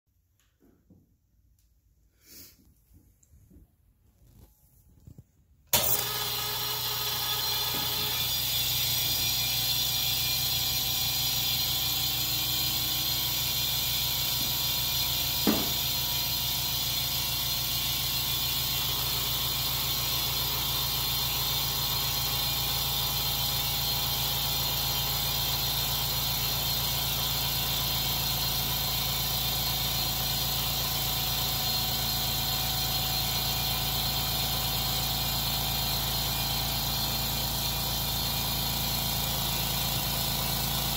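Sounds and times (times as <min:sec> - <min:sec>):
air compressor humming and hissing: 0:05.7 - 0:40.9.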